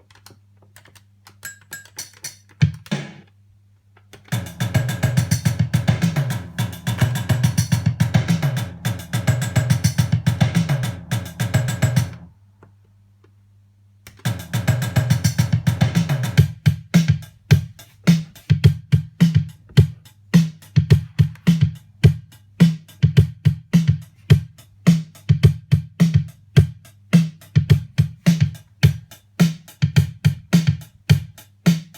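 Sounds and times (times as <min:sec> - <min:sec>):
drum machine beat: 0:02.0 - 0:03.3, 0:04.3 - 0:12.3, 0:14.1 - 0:31.9.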